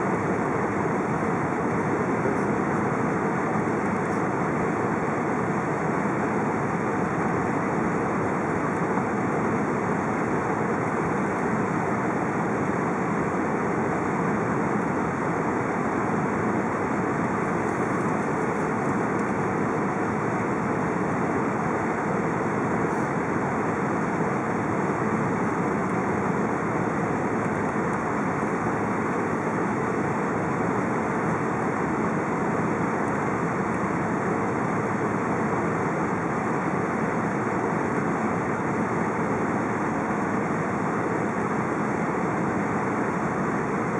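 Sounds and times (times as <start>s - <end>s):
aircraft cabin airflow and engine rumble: 0.0s - 43.9s.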